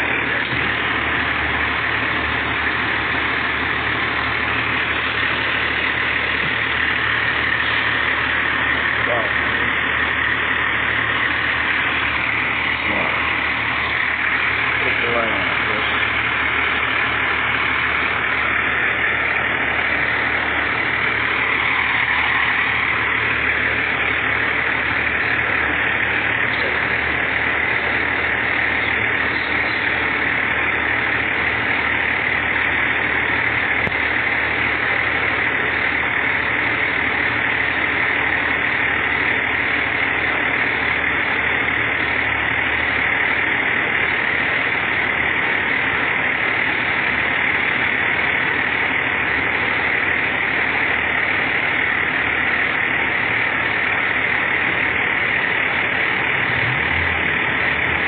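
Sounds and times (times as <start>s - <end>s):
fire engine idling: 0.0s - 58.0s.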